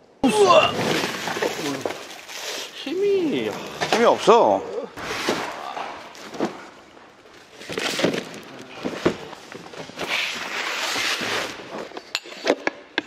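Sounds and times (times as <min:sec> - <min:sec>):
cardboard cartons rustling: 0:00.5 - 0:12.1.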